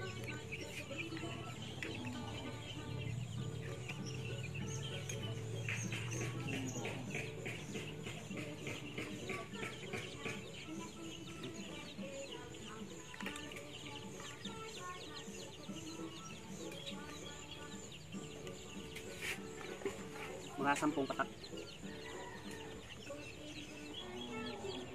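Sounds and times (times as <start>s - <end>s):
chickens clucking and chirping: 0.0s - 24.9s.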